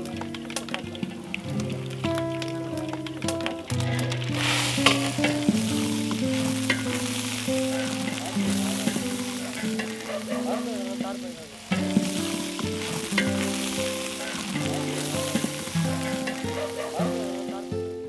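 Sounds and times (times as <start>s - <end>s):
background music with held notes: 0.0s - 18.0s
onions sizzling in hot oil: 0.0s - 18.0s.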